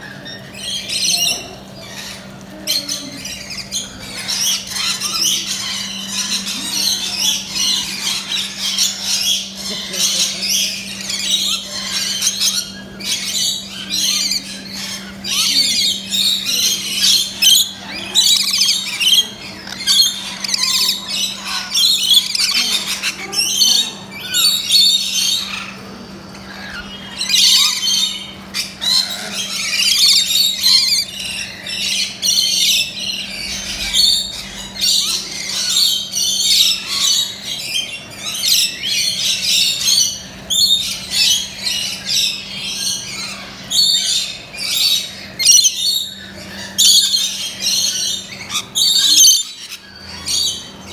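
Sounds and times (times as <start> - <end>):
lorikeets squawking: 0.0 - 50.9
steady low hum: 0.0 - 50.9.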